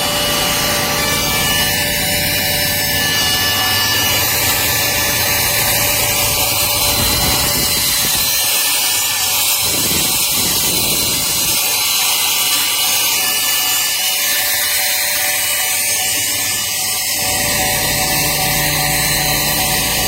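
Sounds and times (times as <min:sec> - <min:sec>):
handheld vacuum running: 0:00.0 - 0:20.0.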